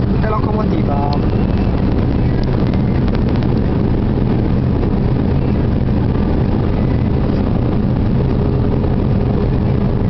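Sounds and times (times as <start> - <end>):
car interior driving rumble: 0.0 - 10.0.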